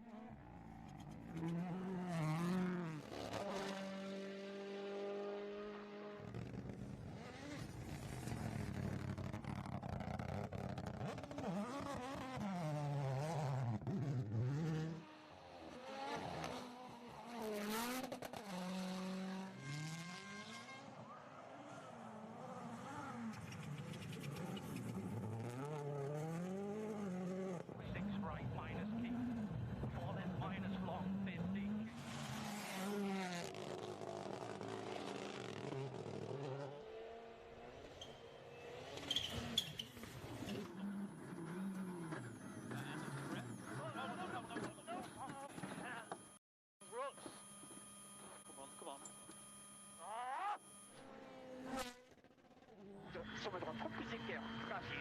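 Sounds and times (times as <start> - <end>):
rally car engines revving: 0.0 - 46.4, 47.2 - 55.0.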